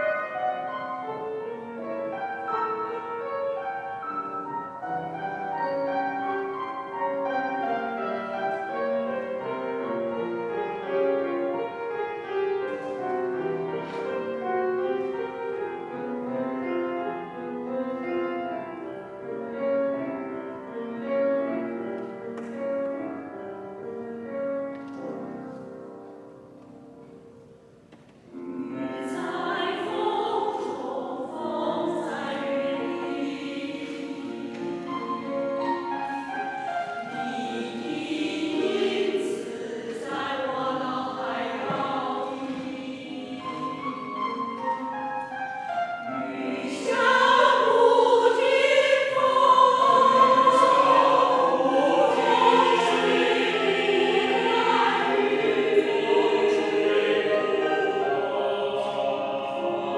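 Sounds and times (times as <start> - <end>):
mixed choir singing: 0.0 - 18.8, 28.3 - 59.9.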